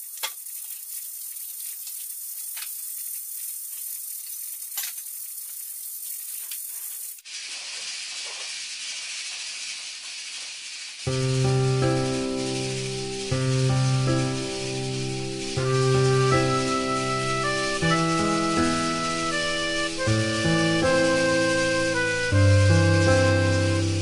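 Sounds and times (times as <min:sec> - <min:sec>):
cooking hiss: 0:00.0 - 0:24.0.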